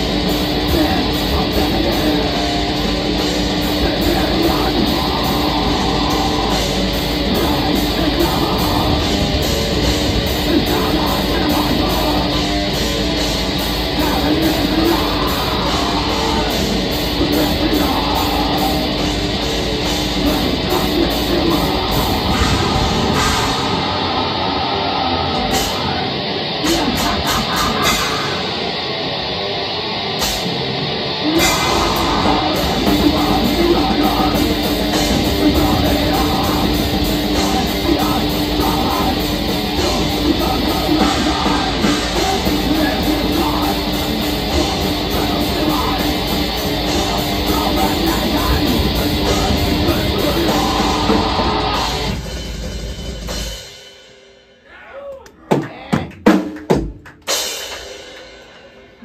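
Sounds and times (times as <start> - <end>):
fast drumming: 0.0 - 24.4, 25.4 - 28.8, 31.2 - 54.0, 54.6 - 58.9
distorted guitars: 0.0 - 59.0
metal band playing live: 0.0 - 59.0.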